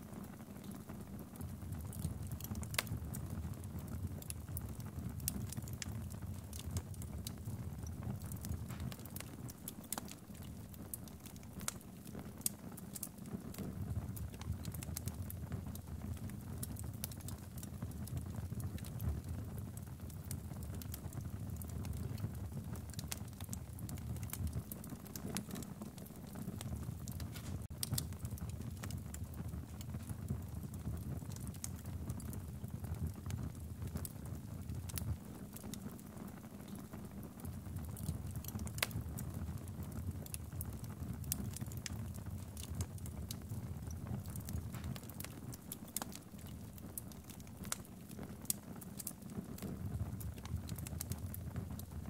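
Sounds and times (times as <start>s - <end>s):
fire low rumble: 0.0s - 52.0s
logs crackling and popping in fire: 0.0s - 52.0s.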